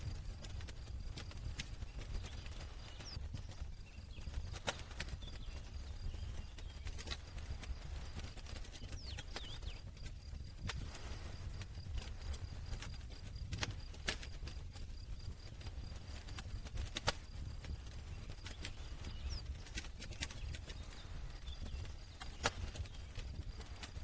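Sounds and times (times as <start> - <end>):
campfire crackling and popping: 0.0 - 24.0
low rumble of fire: 0.0 - 24.0.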